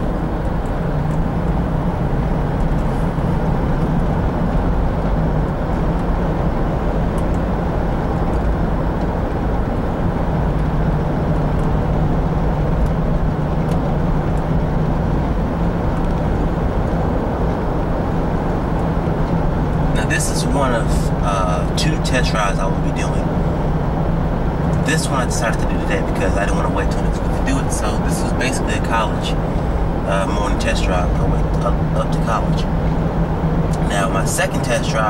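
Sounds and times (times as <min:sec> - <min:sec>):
car engine droning: 0:00.0 - 0:35.0
road and tyre noise: 0:00.0 - 0:35.0.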